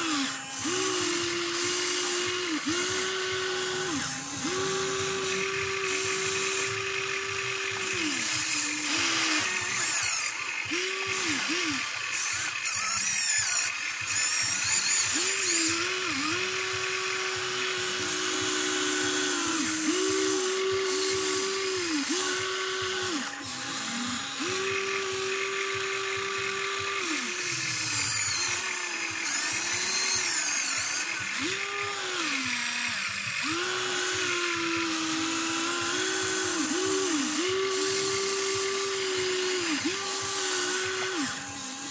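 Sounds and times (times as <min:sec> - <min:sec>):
toy excavator motors whining: 0:00.0 - 0:41.9.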